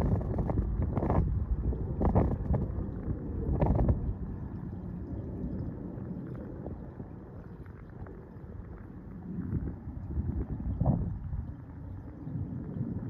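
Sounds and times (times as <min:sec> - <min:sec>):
wind buffeting microphone: 0:00.0 - 0:07.2, 0:08.6 - 0:13.0.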